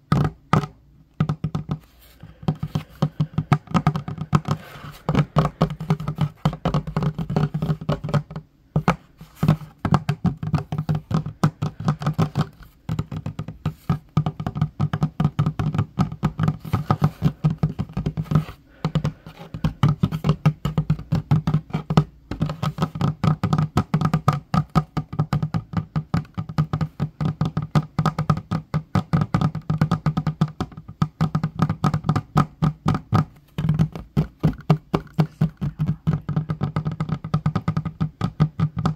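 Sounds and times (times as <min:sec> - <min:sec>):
fingernails tapping on wooden table: 0:00.1 - 0:38.9.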